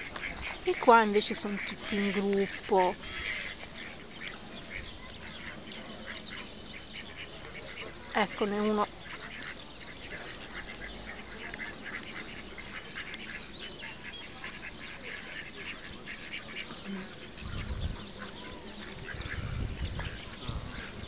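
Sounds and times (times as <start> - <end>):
ducks quacking: 0.0 - 21.0.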